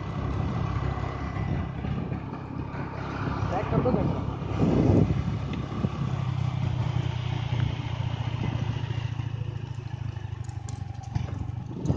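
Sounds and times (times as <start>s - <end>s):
vehicle engine humming: 0.0s - 11.9s.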